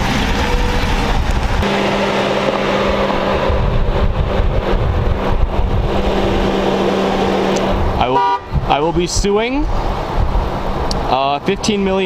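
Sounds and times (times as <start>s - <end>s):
car engine humming: 0.0s - 11.8s.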